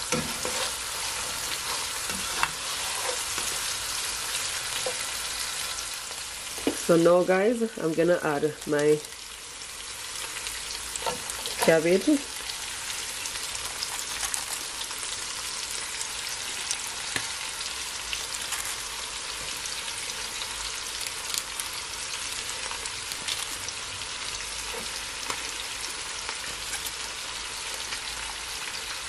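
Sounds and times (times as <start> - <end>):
food frying in a pan: 0.0 - 29.0.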